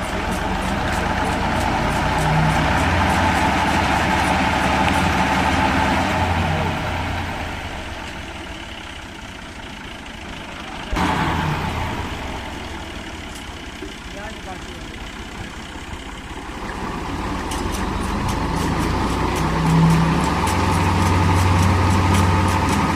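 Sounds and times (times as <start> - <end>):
diesel tractor engine running: 0.0 - 22.9.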